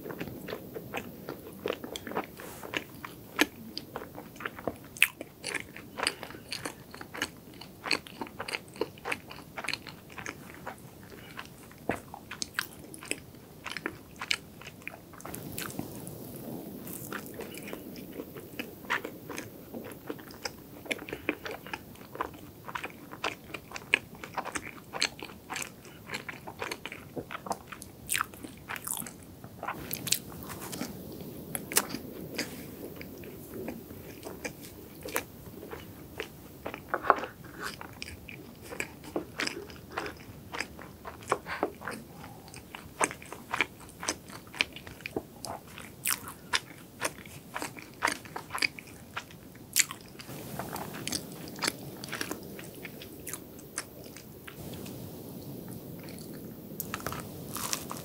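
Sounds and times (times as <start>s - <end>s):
crunchy pastry crackles: 0.0s - 58.0s
soft chewing: 0.0s - 58.0s.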